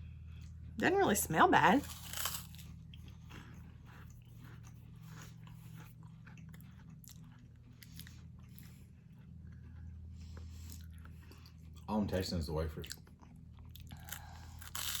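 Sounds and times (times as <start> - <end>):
steady low hum: 0.0 - 15.0
wafers crunching while chewed: 1.8 - 15.0.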